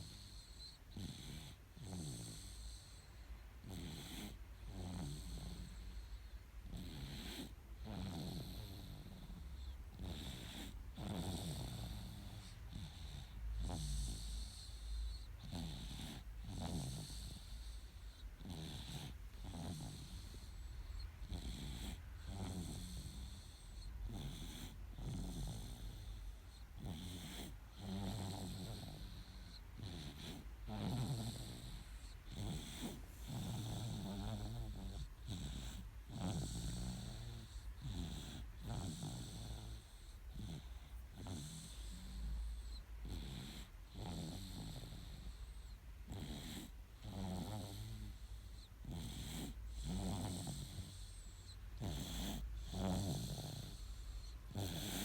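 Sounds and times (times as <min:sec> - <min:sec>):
baby snoring: 0:00.0 - 0:03.0, 0:03.6 - 0:55.0.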